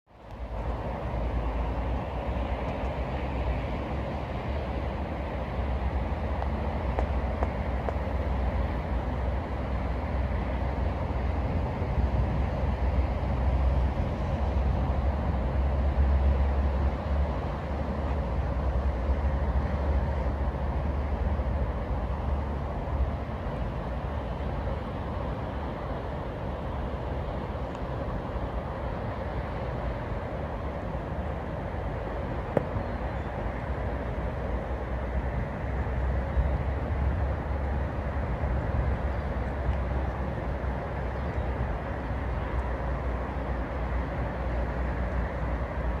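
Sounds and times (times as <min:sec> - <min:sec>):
wind rumble on microphone: 0:00.1 - 0:46.0.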